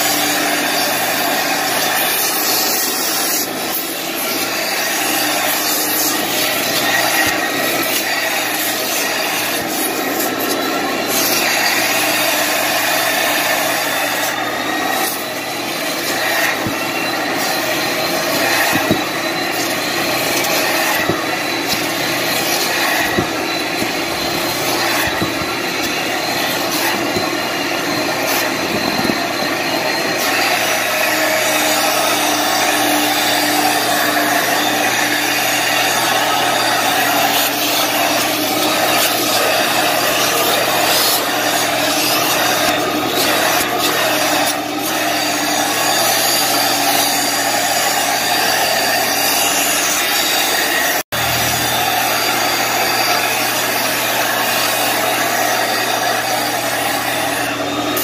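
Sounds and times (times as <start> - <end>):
vacuum suction rush: 0.0 - 49.3
tool rubbing on cloth: 0.0 - 51.1.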